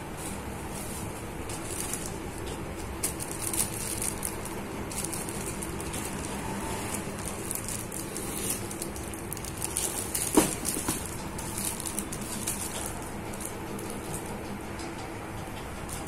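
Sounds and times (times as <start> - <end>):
plastic film crinkling: 0.1 - 14.5.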